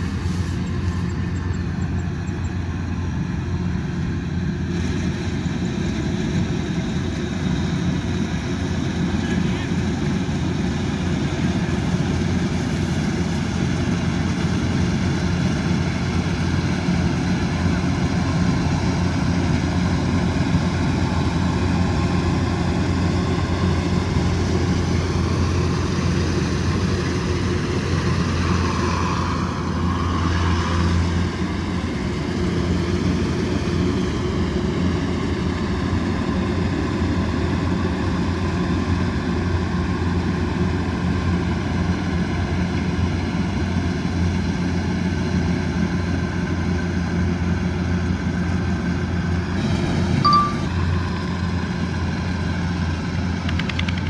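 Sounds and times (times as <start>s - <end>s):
machinery whine: 0.0s - 53.7s
combine harvester diesel drone: 0.0s - 54.0s.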